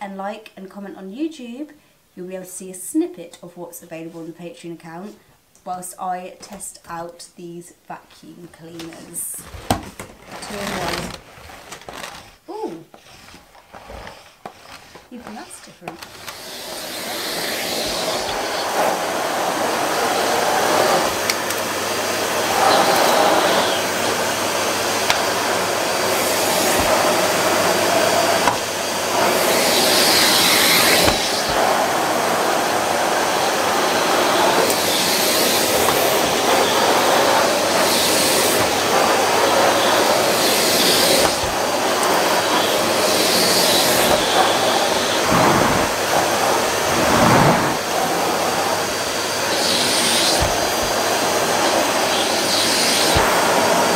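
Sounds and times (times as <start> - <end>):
vacuum cleaners running: 8.7 - 53.9.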